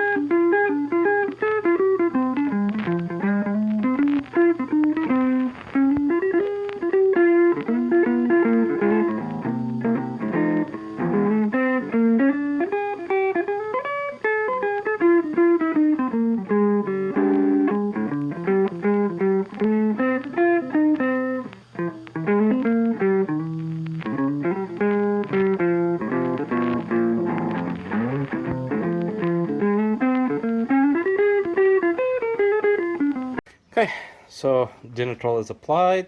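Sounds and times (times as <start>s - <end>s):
guitar plucking notes: 0.0s - 33.4s.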